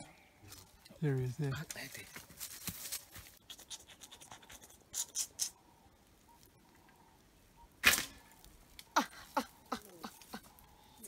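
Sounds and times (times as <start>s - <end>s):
dry brush and twigs rustling: 0.1s - 11.0s.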